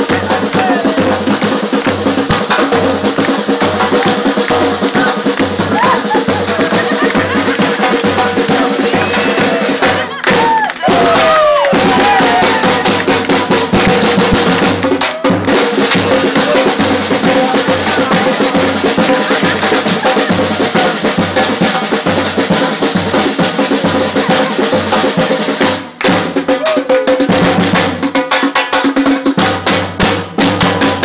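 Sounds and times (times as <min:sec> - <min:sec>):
bass drums: 0:00.0 - 0:31.0
samba drumming: 0:00.0 - 0:31.0.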